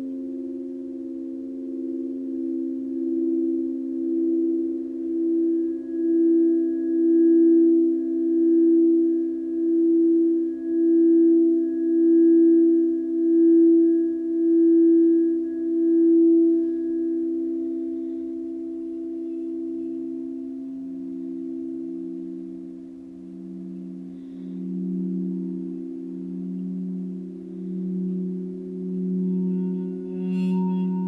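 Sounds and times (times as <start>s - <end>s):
singing bowl tones: 0.0s - 31.0s.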